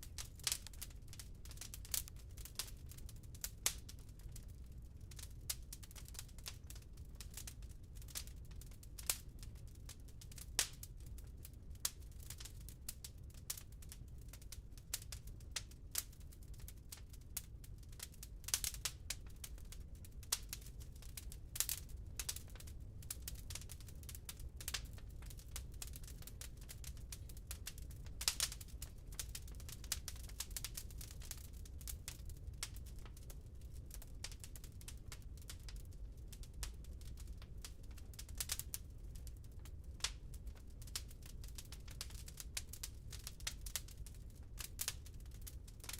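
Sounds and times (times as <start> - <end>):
low fire rumble: 0.0 - 45.9
wood fire crackling and popping: 0.0 - 45.9.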